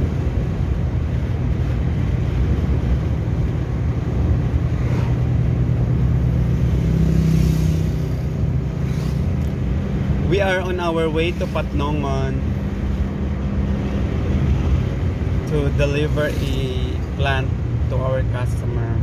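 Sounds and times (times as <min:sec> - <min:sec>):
car engine hum: 0:00.0 - 0:19.0
road noise inside car: 0:00.0 - 0:19.0.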